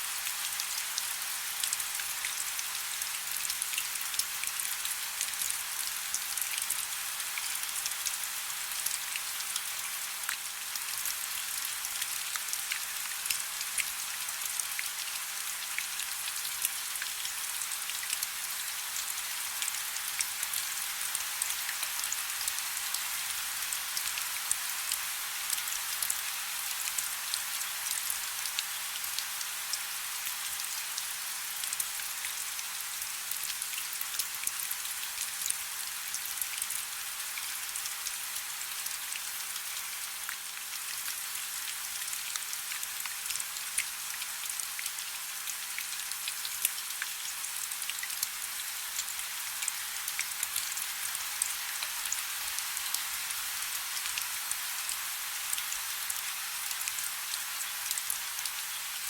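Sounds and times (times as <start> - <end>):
soft steady rain: 0.0 - 59.0.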